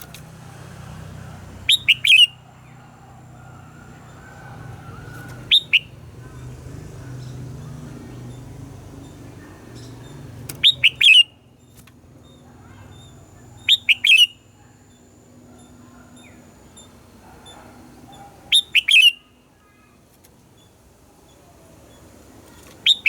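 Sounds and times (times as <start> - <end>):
bulbul singing: 1.0 - 19.8.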